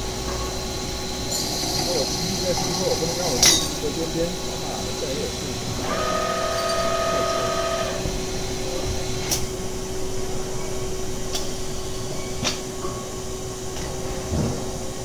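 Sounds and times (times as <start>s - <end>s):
machine humming: 0.0s - 14.2s.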